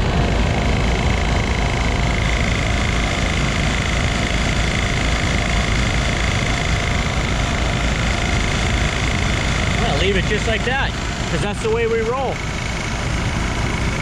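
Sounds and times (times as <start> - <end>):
air conditioner humming: 0.0 - 14.0
high whine: 0.0 - 14.0.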